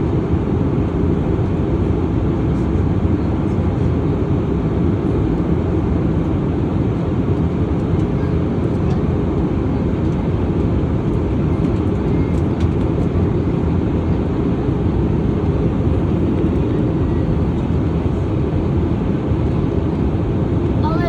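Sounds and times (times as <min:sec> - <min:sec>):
airliner cabin roar: 0:00.0 - 0:21.0.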